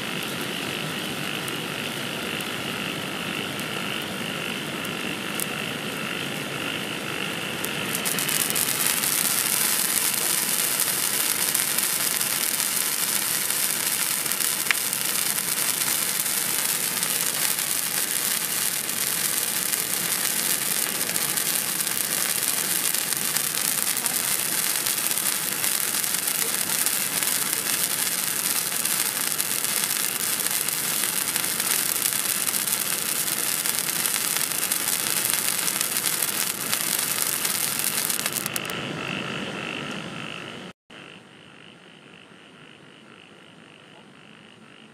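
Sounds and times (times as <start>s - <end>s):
sparkler hissing and crackling: 0.0s - 38.7s.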